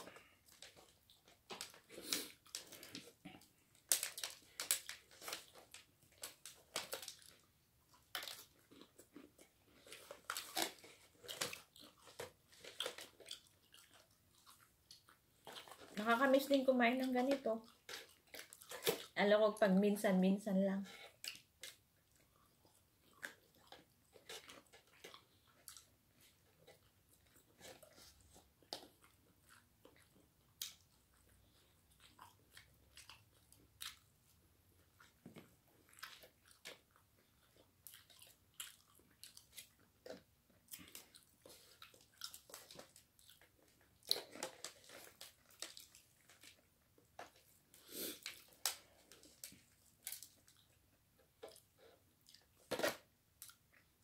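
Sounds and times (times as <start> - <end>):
chewing crispy chicken crunches: 0.0 - 19.2, 20.9 - 54.0.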